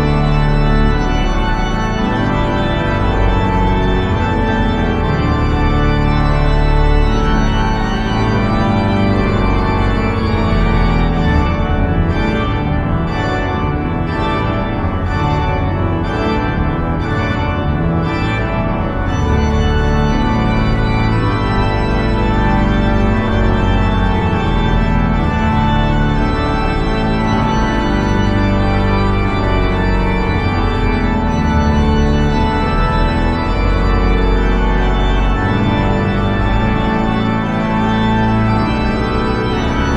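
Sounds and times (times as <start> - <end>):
church organ chords: 0.0 - 39.9.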